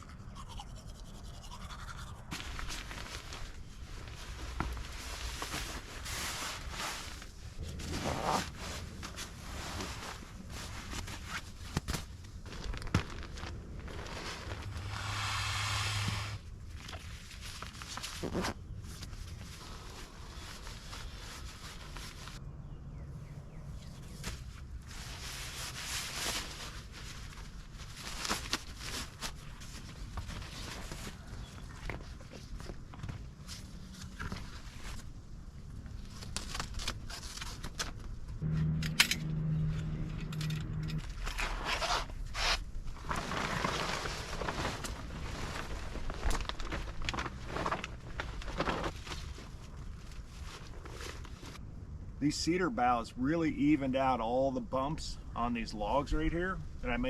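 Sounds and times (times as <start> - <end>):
rustling: 1.7 - 22.4, 24.0 - 51.6.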